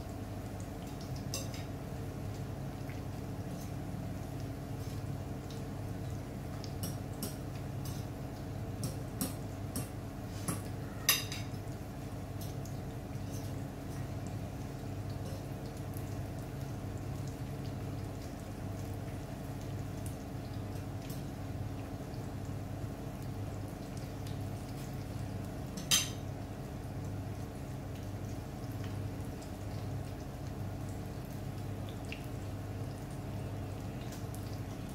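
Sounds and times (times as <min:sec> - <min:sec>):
oil crackling in frying pan: 0:00.0 - 0:34.9.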